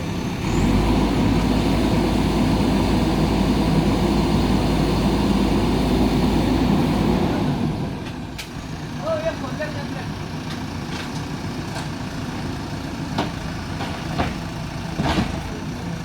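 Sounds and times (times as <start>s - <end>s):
diesel engine running at high revs: 0.0s - 16.0s.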